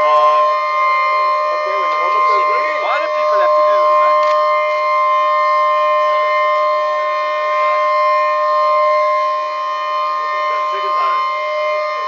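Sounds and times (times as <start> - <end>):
steady warning siren tone: 0.0 - 12.0.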